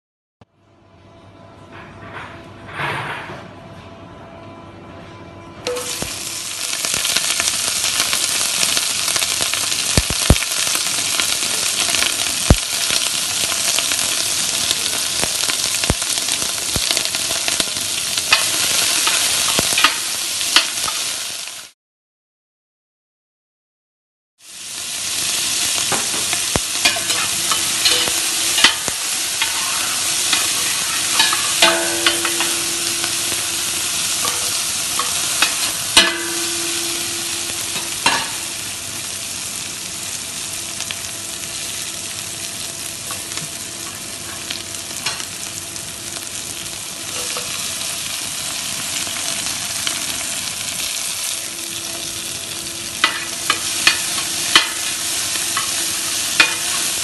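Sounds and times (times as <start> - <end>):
vegetables sizzling in oil: 5.7 - 21.8, 24.4 - 57.0.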